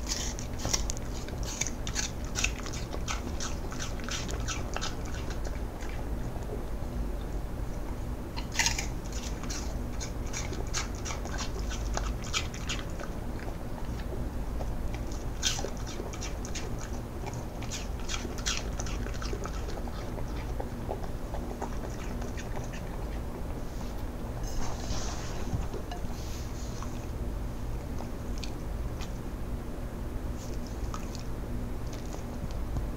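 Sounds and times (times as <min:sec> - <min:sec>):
dog crunching and chewing apple: 0:00.0 - 0:29.4, 0:30.2 - 0:32.8.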